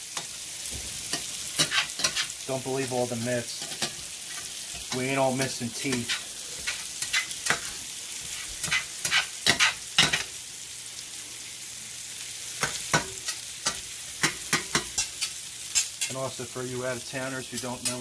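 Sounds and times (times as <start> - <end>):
beef sizzling in a pan: 0.0 - 18.0.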